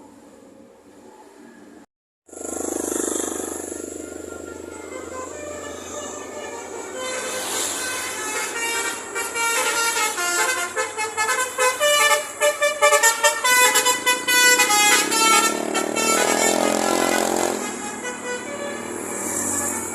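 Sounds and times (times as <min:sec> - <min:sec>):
musical air horn melody: 0:03.9 - 0:19.9.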